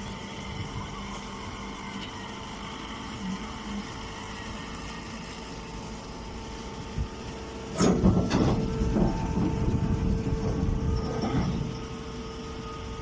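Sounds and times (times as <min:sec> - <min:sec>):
hay baler humming: 0:00.0 - 0:13.0.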